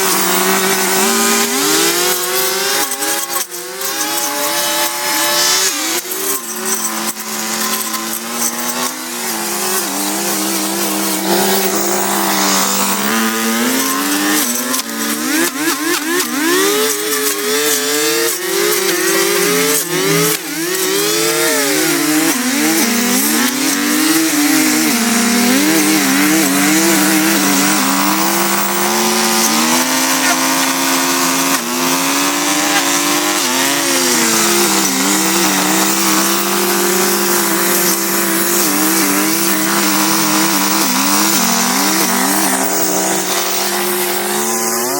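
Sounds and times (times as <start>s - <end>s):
small petrol engine revving: 0.0s - 44.9s.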